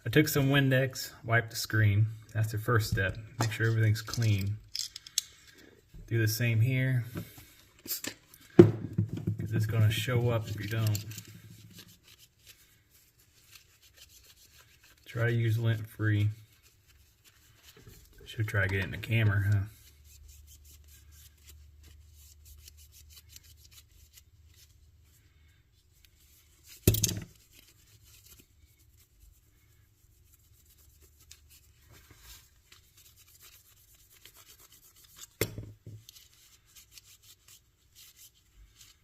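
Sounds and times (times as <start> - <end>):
hands rubbing plastic parts: 2.3 - 39.0.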